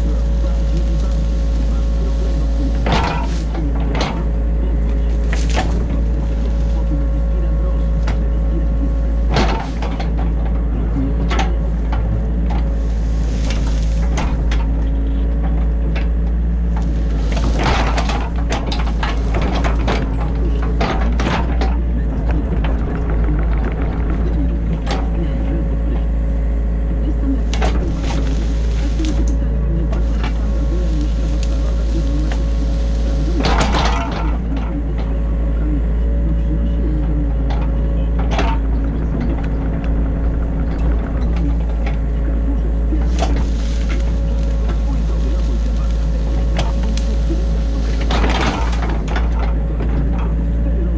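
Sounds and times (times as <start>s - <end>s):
diesel engine running: 0.0s - 50.9s
digging knocks and clunks: 0.0s - 50.9s.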